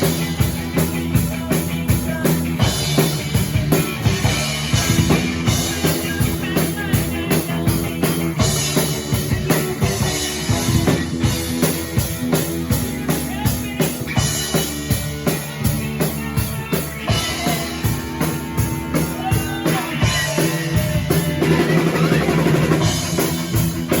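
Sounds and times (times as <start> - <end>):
bass drum and snare beat: 0.0 - 24.0
music with drum kit: 0.0 - 24.0.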